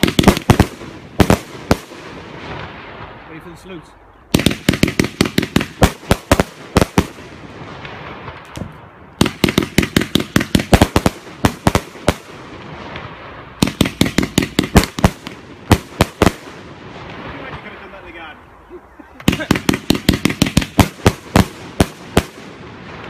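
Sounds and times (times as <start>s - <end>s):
firework bangs: 0.0s - 3.6s, 4.3s - 18.4s, 19.2s - 23.0s.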